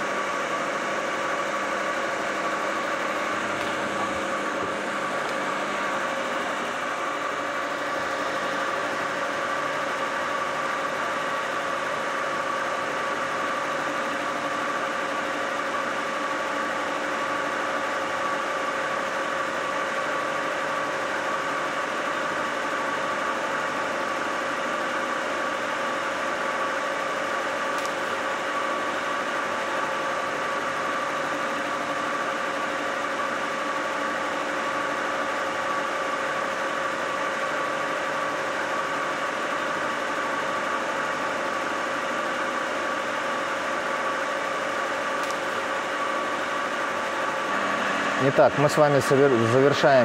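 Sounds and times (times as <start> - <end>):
milling machine whine: 0.0 - 50.0.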